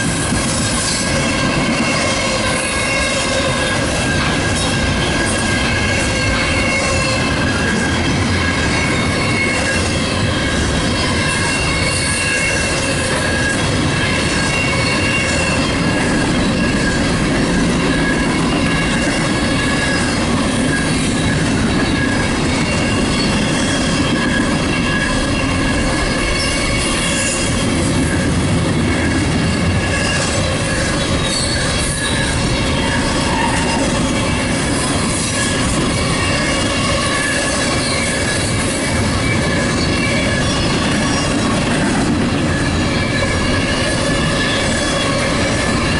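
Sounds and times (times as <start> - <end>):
freight train rumbling on rails: 0.0 - 45.9
train wheels squealing: 0.0 - 45.9.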